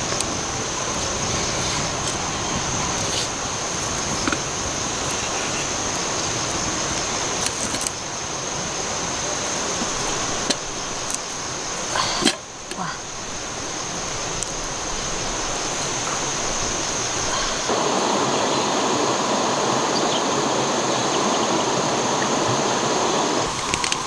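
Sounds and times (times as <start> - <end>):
campfire crackling: 0.0 - 24.0
rocky stream rushing: 0.0 - 24.0.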